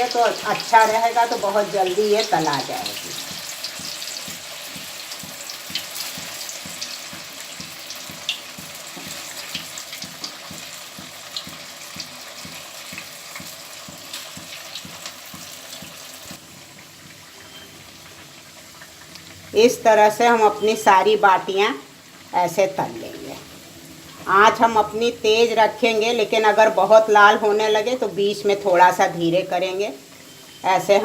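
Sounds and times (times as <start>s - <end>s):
dough deep-frying in oil: 0.0s - 31.0s.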